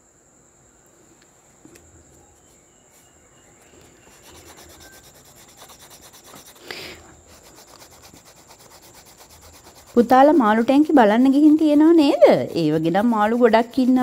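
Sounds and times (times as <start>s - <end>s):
oil pastel rubbing on paper: 2.4s - 14.0s.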